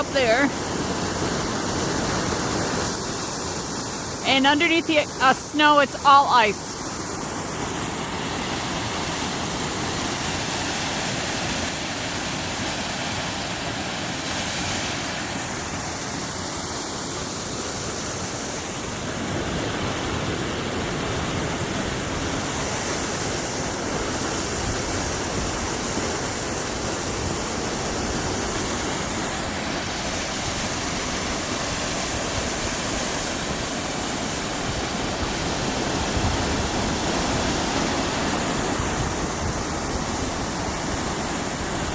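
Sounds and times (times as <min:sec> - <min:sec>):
water running down waterfall: 0:00.0 - 0:41.9.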